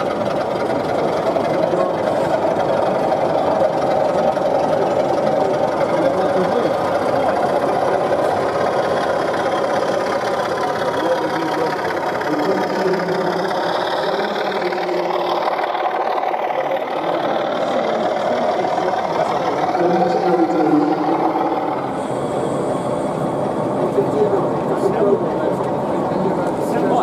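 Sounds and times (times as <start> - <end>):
model diesel locomotive engine drone: 0.0 - 27.0.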